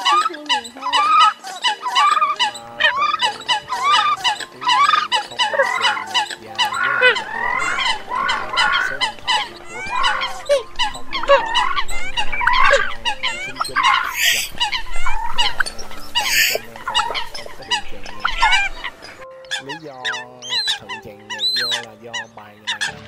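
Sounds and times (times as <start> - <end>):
chorus of coot calls: 0.0 - 23.0
faint background music: 0.0 - 23.0.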